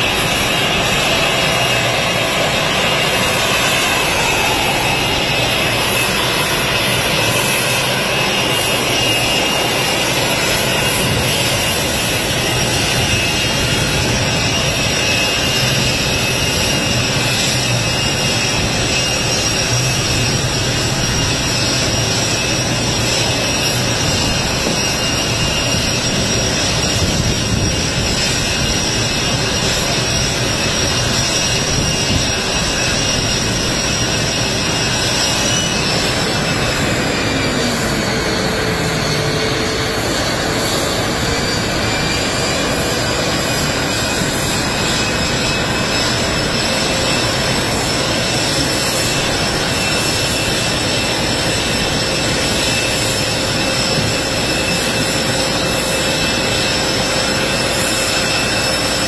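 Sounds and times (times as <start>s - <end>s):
mechanical roar with high whine: 0.0s - 59.0s.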